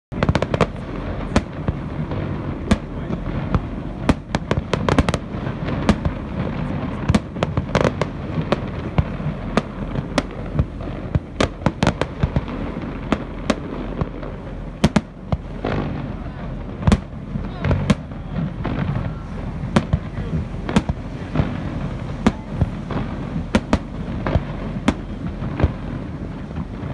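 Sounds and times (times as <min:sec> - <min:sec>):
fireworks bangs: 0:00.1 - 0:26.9
low rumble: 0:00.1 - 0:26.9.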